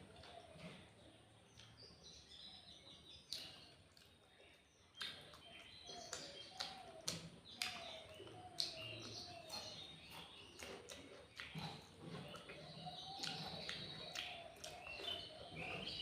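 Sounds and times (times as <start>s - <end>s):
birds chirping: 0.0s - 16.0s
chewing and lip-smacking: 0.0s - 16.0s.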